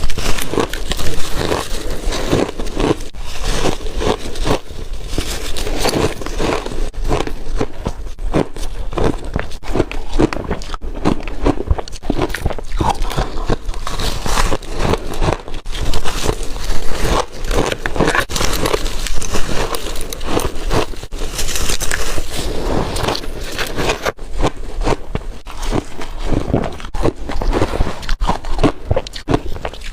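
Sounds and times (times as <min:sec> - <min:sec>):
ice being crunched and chewed: 0:00.0 - 0:29.9.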